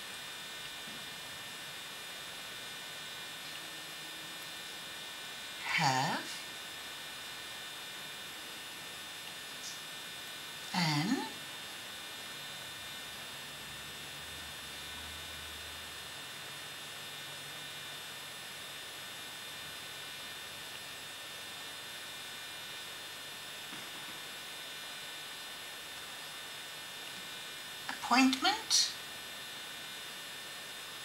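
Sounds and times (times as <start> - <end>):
constant hiss: 0.0 - 31.0
electrical mains hum: 0.0 - 31.0.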